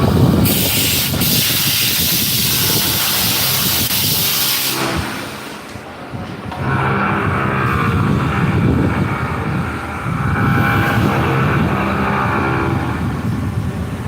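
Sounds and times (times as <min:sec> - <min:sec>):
machine humming and whirring: 0:00.0 - 0:14.0.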